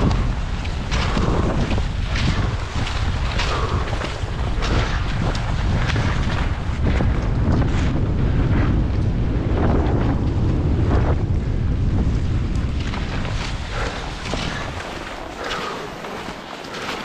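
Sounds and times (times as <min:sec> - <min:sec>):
skis scraping over snow: 0:00.0 - 0:17.0
wind buffeting microphone: 0:00.0 - 0:17.0.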